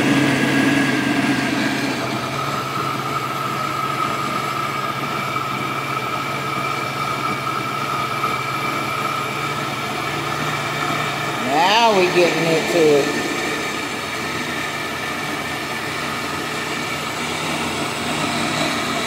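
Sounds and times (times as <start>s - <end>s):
blender running: 0.0s - 19.0s.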